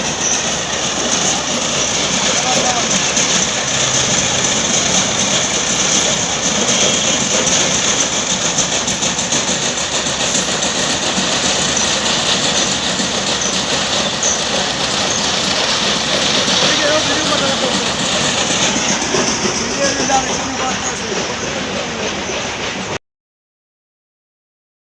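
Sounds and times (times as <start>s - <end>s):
machinery running: 0.0s - 23.0s.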